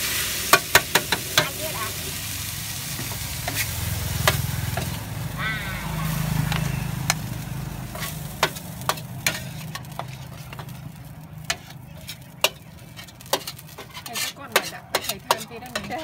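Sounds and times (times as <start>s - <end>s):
metal spatula scraping wok: 0.0s - 5.2s, 5.9s - 16.0s
faint sizzle: 0.0s - 16.0s.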